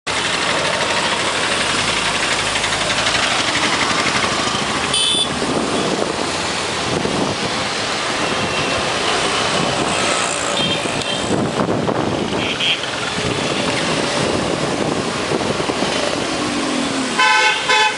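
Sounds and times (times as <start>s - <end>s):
city traffic engine and road noise: 0.0s - 17.9s.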